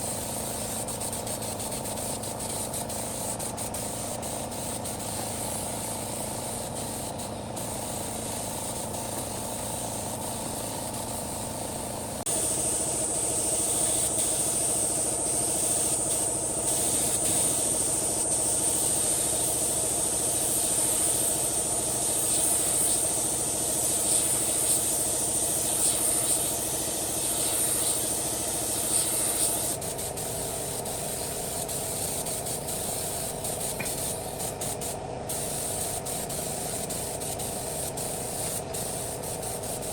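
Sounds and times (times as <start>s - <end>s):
loud spray hiss: 0.0s - 39.9s
motor running: 0.0s - 39.9s.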